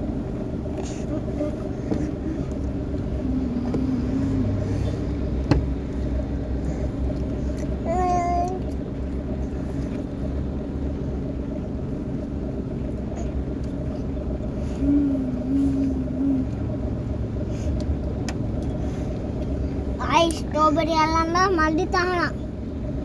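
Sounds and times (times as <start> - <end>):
motor droning: 0.0 - 22.0.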